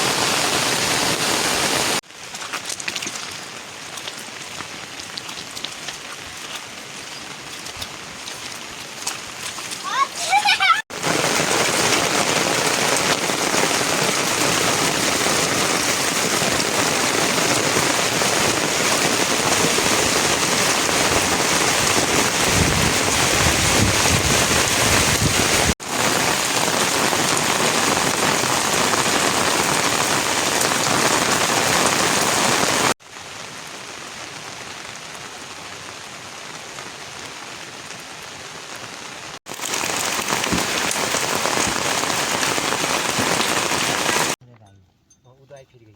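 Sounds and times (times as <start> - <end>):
heavy rain falling: 0.0 - 44.4.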